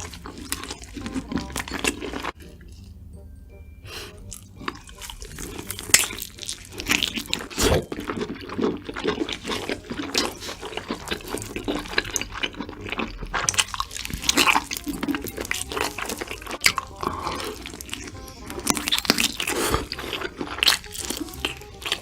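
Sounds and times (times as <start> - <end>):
wet chewing mouth sounds: 0.0 - 3.0, 4.0 - 22.0.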